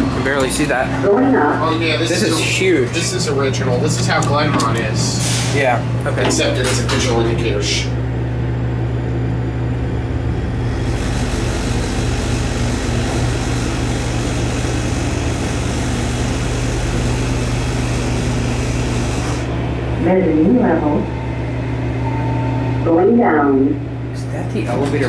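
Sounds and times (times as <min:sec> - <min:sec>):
elevator low hum: 0:00.0 - 0:25.0.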